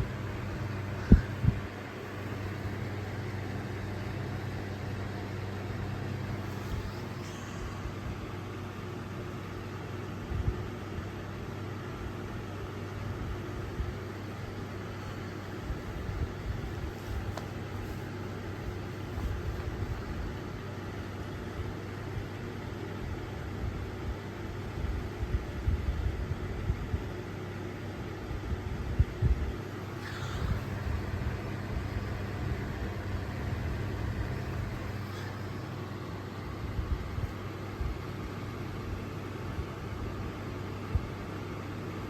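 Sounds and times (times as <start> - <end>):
ceiling fan motor humming: 0.0 - 42.0.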